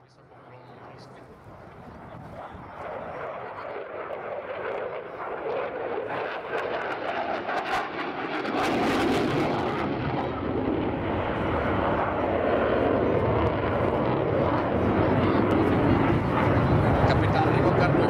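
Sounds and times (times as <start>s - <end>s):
jet engine noise: 0.0s - 18.0s.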